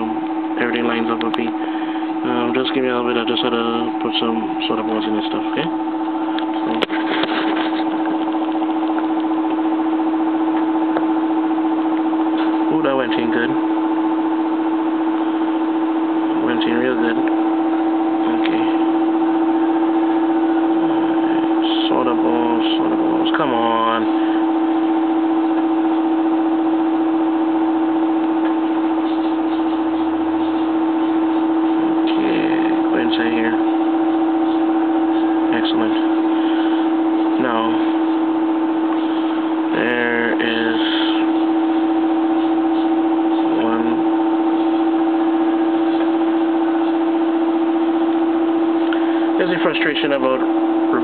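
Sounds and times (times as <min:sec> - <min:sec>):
electric motor hum: 0:00.0 - 0:51.0.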